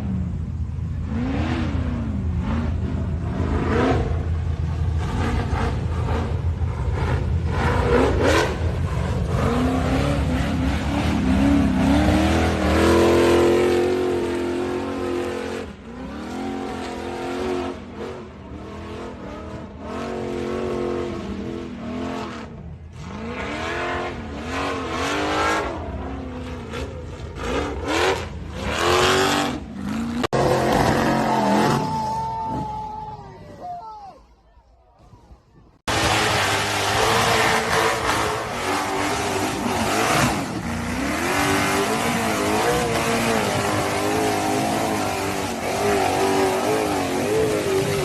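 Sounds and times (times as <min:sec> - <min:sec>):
off-road vehicle engine revving: 0:00.0 - 0:32.9, 0:35.8 - 0:48.0.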